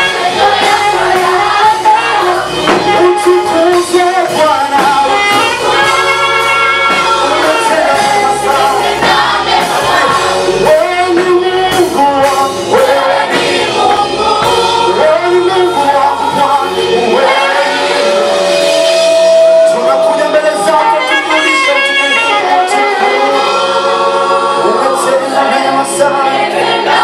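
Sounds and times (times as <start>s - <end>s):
band accompaniment: 0.0s - 27.0s
choir singing gospel song: 0.0s - 27.0s.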